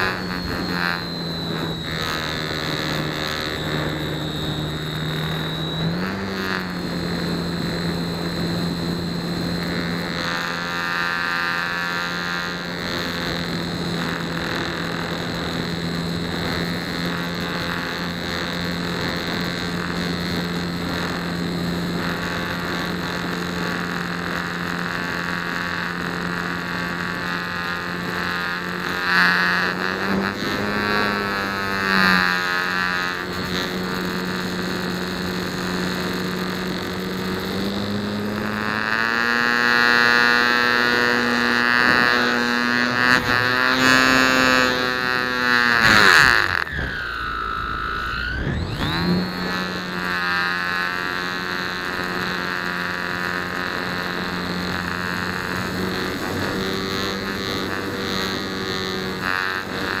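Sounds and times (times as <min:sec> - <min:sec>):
propeller whine: 0:00.0 - 1:00.0.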